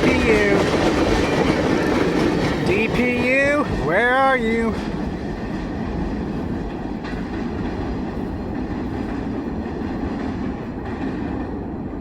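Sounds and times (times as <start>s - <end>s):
freight train rumbling: 0.0s - 12.0s.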